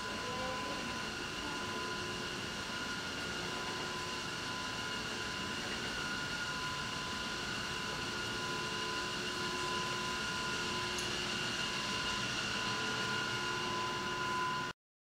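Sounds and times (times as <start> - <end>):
faint high whines: 0.0 - 14.8.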